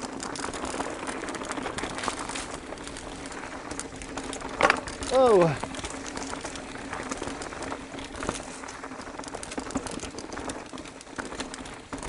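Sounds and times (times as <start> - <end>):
bike knocks and rattles: 0.0 - 12.0
tyres on dirt and stones: 0.0 - 12.0.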